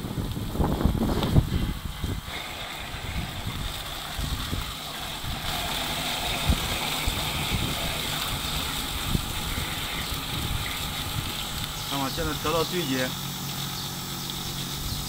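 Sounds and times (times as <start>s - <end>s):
soy milk grinder motor running: 0.0s - 15.0s
soy milk splashing on drain grate: 2.0s - 14.8s.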